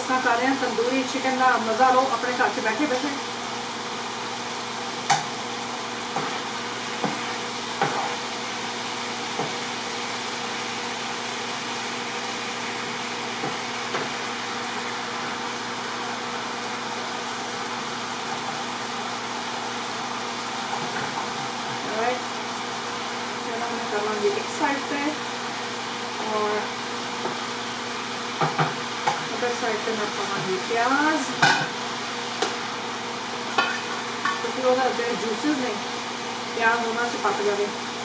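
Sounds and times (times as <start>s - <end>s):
chicken sizzling in oil: 0.0s - 38.0s.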